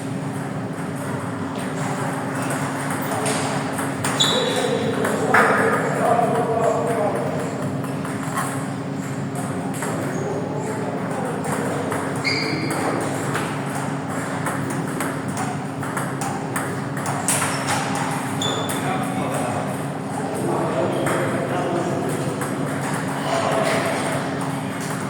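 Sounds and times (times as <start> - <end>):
murmur of the hall: 0.0 - 25.0.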